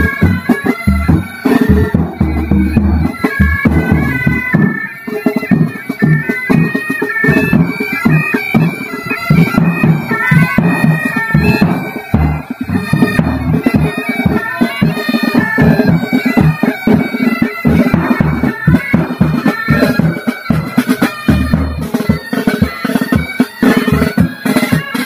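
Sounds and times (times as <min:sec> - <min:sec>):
bagpipes melody with drones: 0:00.0 - 0:25.0
drums beating time: 0:00.0 - 0:25.0.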